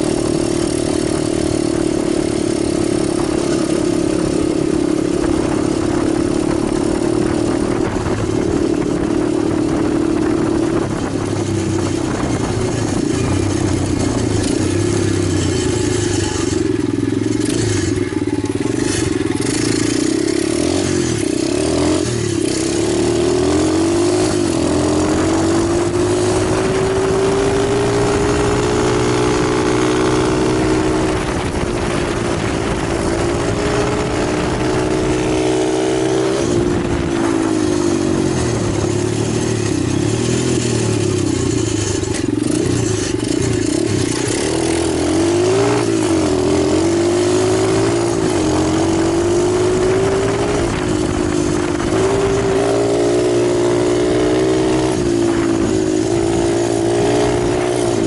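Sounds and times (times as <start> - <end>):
pit bike engine revving: 0.0 - 58.0.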